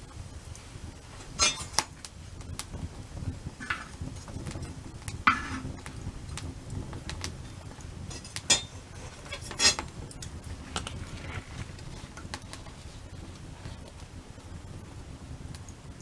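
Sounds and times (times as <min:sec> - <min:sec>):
campfire crackling: 0:00.0 - 0:16.0
sharp fire snaps: 0:00.0 - 0:16.0.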